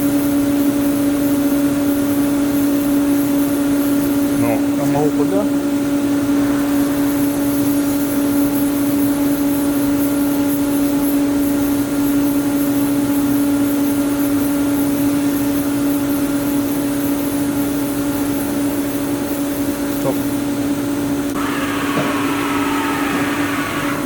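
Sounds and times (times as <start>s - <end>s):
machining center humming: 0.0s - 24.0s.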